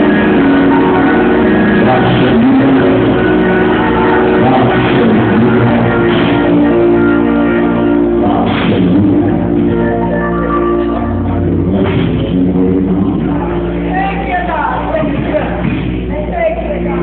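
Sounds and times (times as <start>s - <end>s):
live gospel band music: 0.0s - 17.0s.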